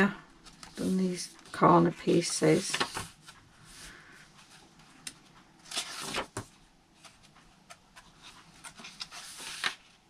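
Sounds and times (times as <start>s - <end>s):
paper pages rustling: 0.4s - 10.0s.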